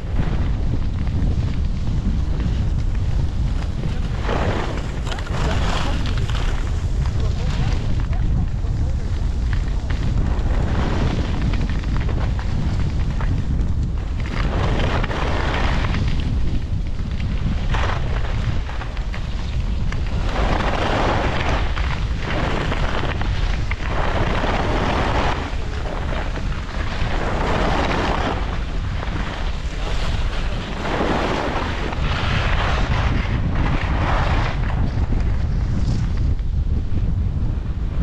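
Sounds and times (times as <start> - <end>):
skis scraping over snow: 0.0 - 38.0
wind buffeting microphone: 0.0 - 38.0.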